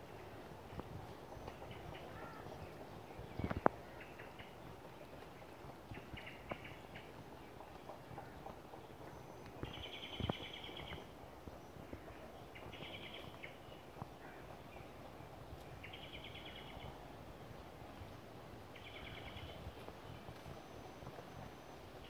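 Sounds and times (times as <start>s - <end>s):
low outdoor background: 0.0s - 22.0s
songbird singing: 0.0s - 22.0s.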